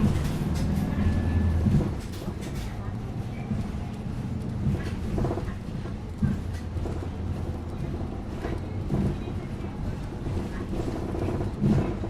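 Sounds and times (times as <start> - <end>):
bus engine and road drone: 0.0 - 12.0
muffled passenger voices: 0.0 - 12.0.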